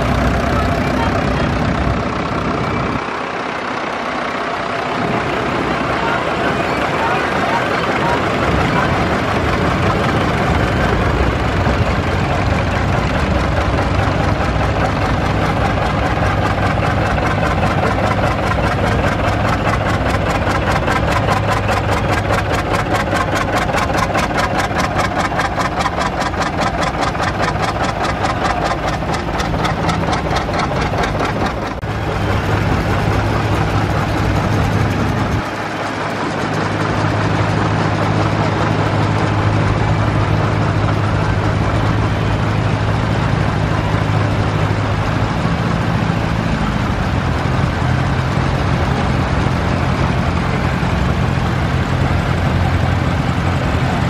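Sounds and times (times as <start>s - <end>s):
close engine exhaust beat: 0.0s - 54.0s
tractor engines running: 0.0s - 54.0s.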